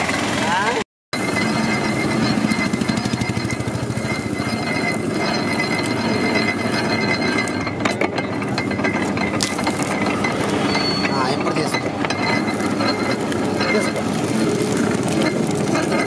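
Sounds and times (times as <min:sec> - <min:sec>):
thin steady whine: 0:00.4 - 0:16.0
juice crusher rollers clattering: 0:01.2 - 0:16.0.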